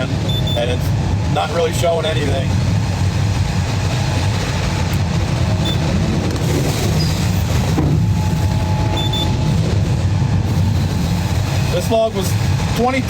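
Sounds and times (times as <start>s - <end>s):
sawmill machinery rumbling: 0.0s - 13.0s
thin machine whine: 0.0s - 13.0s.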